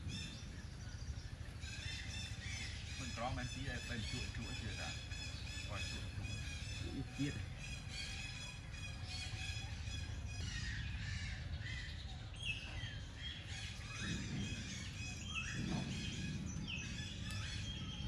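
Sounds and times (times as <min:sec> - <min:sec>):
birds chirping and calling: 0:00.0 - 0:18.0
steady low rumble: 0:00.0 - 0:18.0.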